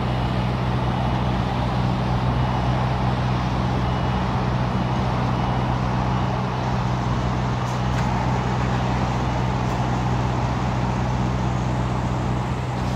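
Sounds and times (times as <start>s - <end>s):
diesel truck engine idling: 0.0s - 12.9s.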